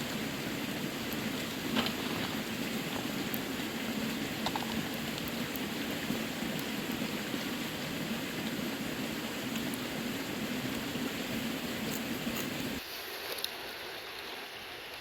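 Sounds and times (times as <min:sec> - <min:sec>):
river running: 0:00.0 - 0:15.0.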